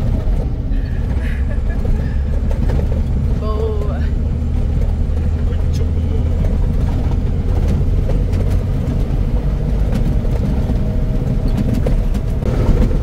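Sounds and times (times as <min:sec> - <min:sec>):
diesel truck engine rumbling: 0:00.0 - 0:13.0
rattles and knocks: 0:00.0 - 0:13.0.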